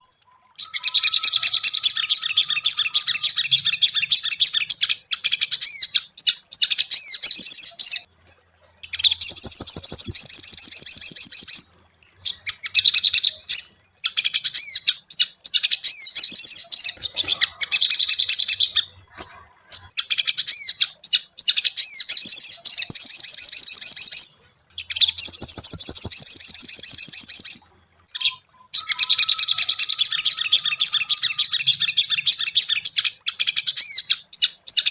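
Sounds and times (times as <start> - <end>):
bird chirps and trills: 0.0 - 34.9.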